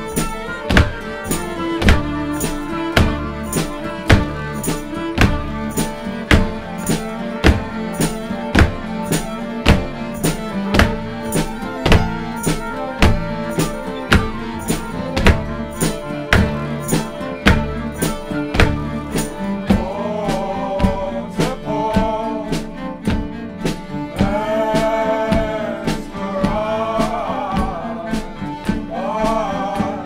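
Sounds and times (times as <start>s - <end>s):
bowed fiddle: 0.0s - 30.0s
double bass: 0.0s - 30.0s
percussion strikes: 0.0s - 30.0s.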